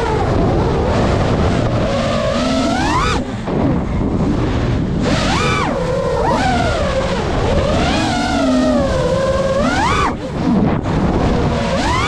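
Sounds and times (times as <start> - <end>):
drone motors whining: 0.0 - 12.0
wind on microphone: 0.0 - 12.0.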